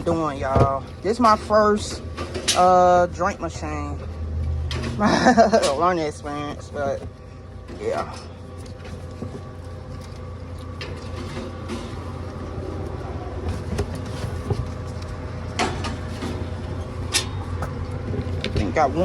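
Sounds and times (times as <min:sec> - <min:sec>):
vending machine mechanical hum: 0:00.0 - 0:19.0.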